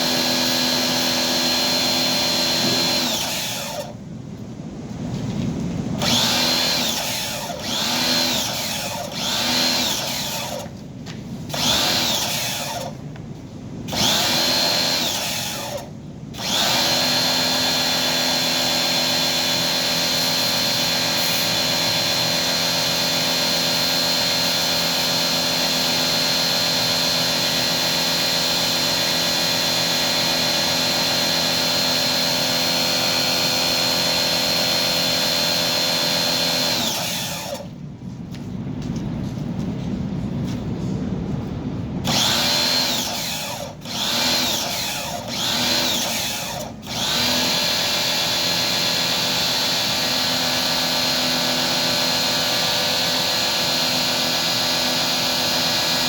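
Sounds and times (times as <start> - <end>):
power tool motor whining: 0.0 - 4.0, 6.0 - 10.8, 11.5 - 13.0, 13.9 - 37.8, 42.0 - 56.0.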